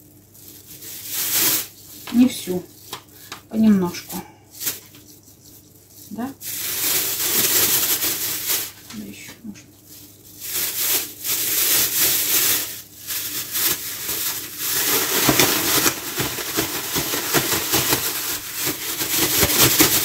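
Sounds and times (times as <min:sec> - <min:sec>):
plastic bag rustling: 0:00.0 - 0:20.0.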